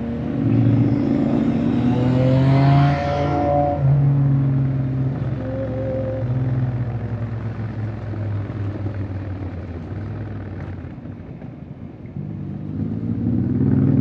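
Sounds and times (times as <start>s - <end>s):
motorcycle engine accelerating: 0.0s - 11.1s, 12.2s - 14.0s.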